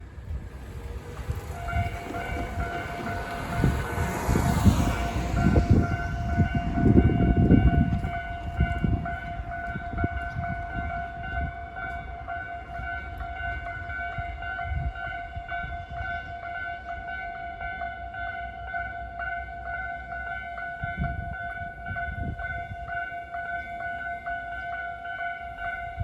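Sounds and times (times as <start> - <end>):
train rumbling past: 0.0 - 26.0
electronic crossing alarms ringing: 1.2 - 26.0.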